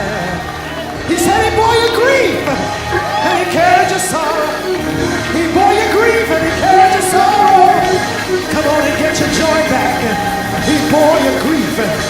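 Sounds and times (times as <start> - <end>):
church worship singing: 0.0 - 12.0.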